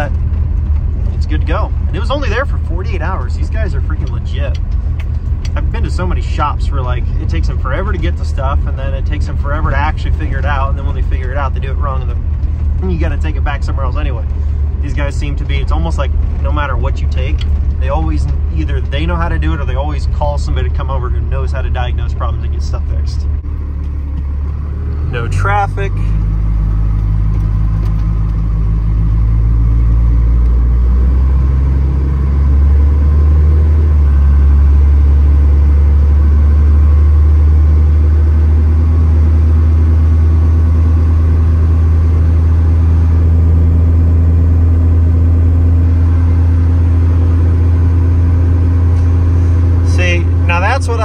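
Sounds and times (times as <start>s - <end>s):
diesel truck engine running: 0.0s - 51.0s
tyre and road noise: 0.0s - 51.0s.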